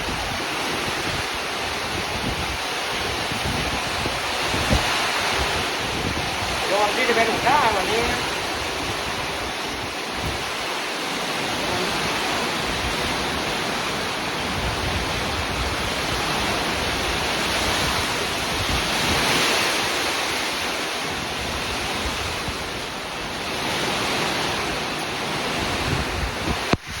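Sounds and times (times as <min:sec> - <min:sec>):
gusting wind: 0:00.0 - 0:27.0
rain falling: 0:00.0 - 0:27.0.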